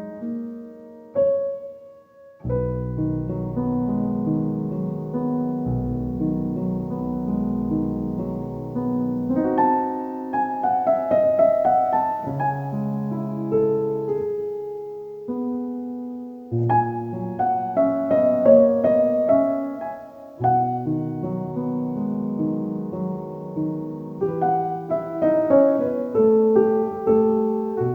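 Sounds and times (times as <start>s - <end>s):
solo piano music: 0.0s - 27.9s.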